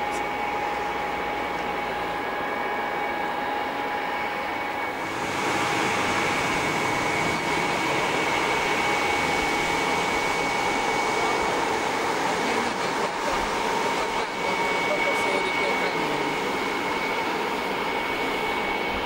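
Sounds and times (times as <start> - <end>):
jet engine whine: 0.0 - 19.0.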